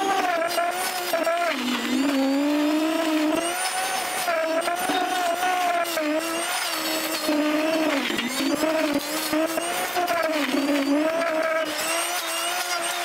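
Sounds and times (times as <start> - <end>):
mulcher engine whining: 0.0 - 13.0.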